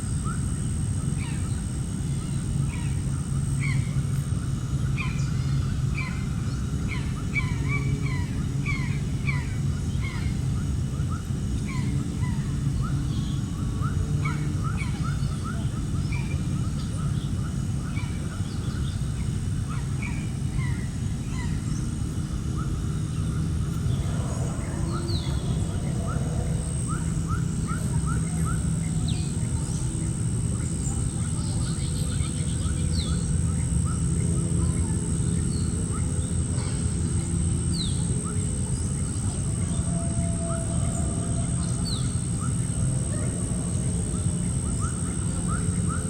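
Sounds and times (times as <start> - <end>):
steady low rumble: 0.0 - 46.0
flock of birds calling: 4.9 - 33.8, 37.6 - 46.0.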